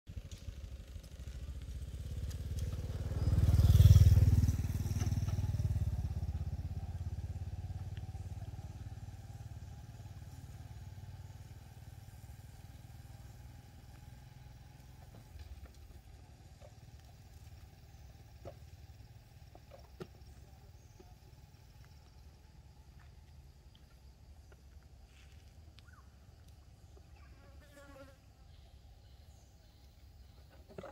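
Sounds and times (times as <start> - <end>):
passing vehicle engine hum: 0.1 - 30.9.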